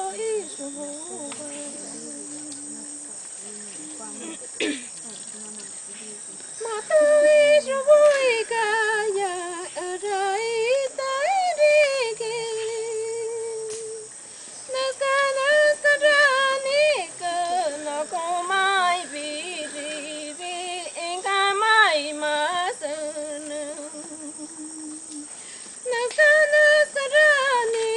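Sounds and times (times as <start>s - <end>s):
woman singing unaccompanied: 0.0s - 4.4s, 5.0s - 27.9s.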